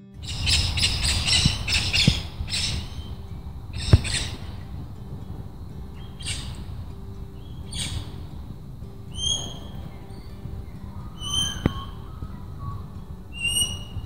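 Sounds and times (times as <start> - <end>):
steady low rumble: 0.0 - 14.0
parrots squawking: 0.2 - 14.0.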